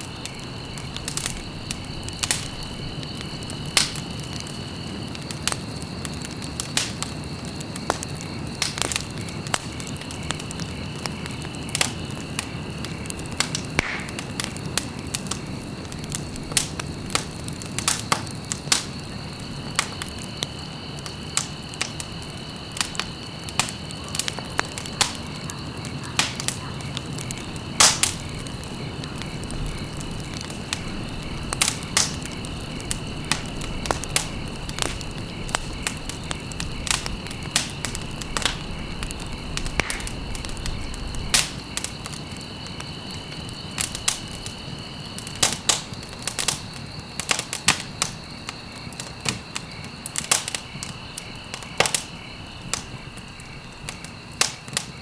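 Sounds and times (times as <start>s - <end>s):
low rustle of fire: 0.0s - 55.0s
wood fire crackling and popping: 0.0s - 55.0s.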